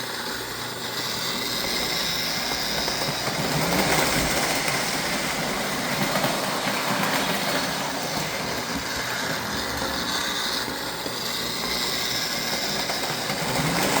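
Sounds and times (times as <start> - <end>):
model train rolling hum: 0.0 - 14.0.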